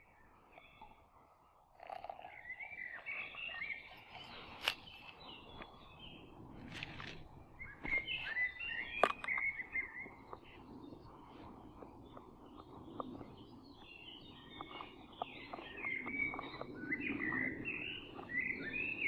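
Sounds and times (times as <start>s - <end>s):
songbirds warbling: 0.0s - 19.0s.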